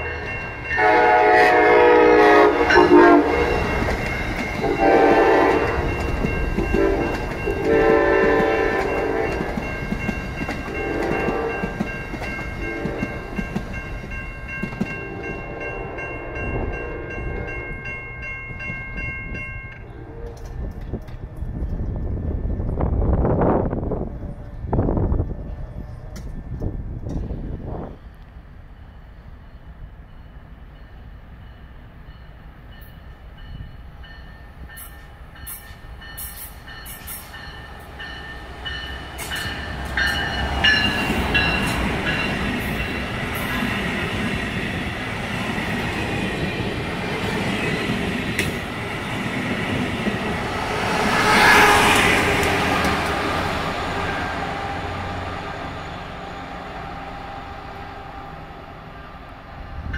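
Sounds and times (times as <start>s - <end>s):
rail clicks: 0.0s - 28.5s, 32.7s - 58.4s
train wheels rumbling on rails: 0.0s - 59.9s.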